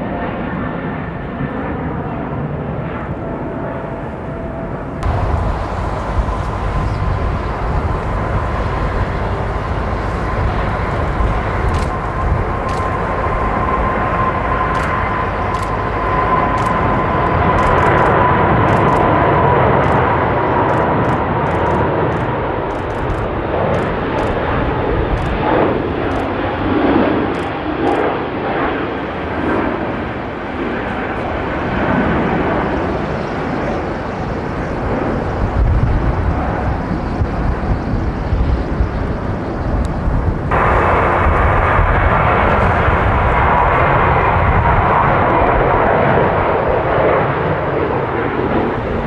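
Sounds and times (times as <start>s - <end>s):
jet engine noise with whine: 0.0s - 49.0s.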